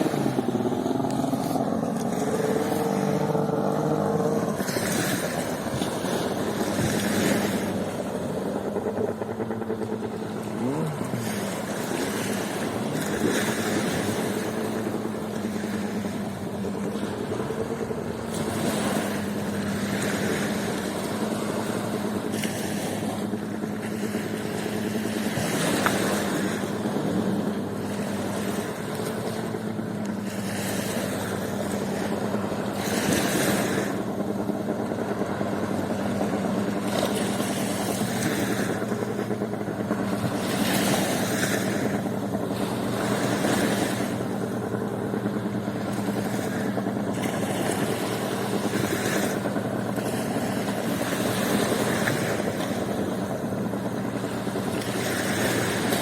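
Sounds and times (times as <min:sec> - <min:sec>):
low motor hum: 0:00.0 - 0:56.0
waves washing ashore: 0:00.0 - 0:56.0.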